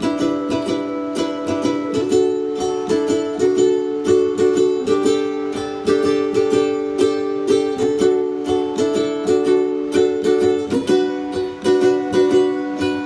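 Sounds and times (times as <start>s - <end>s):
acoustic guitar: 0.0s - 13.0s
ukulele strumming chords: 0.0s - 13.0s.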